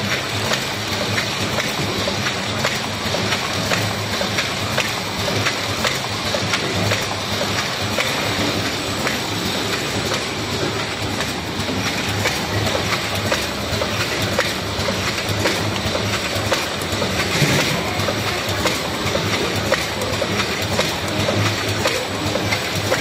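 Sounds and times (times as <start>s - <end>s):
cartoning machine clattering: 0.0s - 23.0s.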